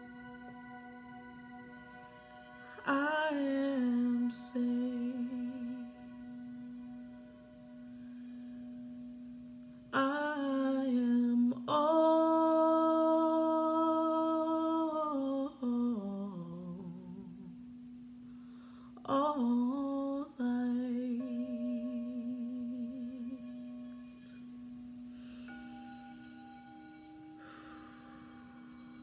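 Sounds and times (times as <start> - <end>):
soft instrumental drone: 0.0 - 29.0
woman singing sustained notes: 0.0 - 29.0.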